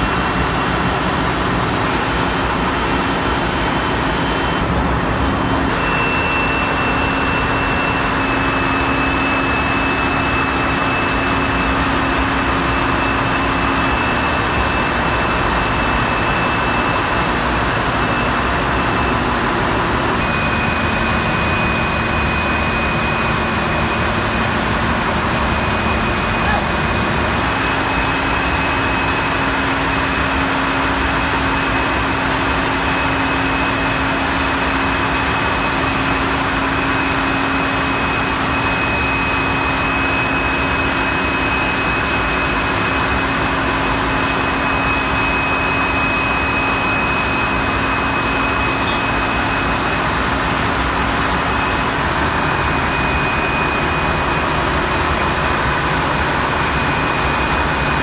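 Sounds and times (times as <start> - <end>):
diesel generators roaring: 0.0 - 58.0
high whine: 0.0 - 58.0.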